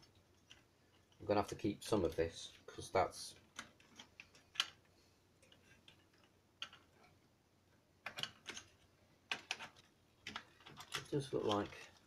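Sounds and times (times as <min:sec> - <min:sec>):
plastic parts clicking: 0:00.0 - 0:07.1, 0:08.0 - 0:12.0.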